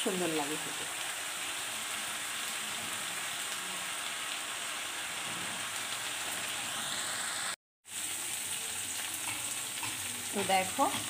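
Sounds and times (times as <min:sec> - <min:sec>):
oil sizzling with frying food: 0:00.0 - 0:11.0.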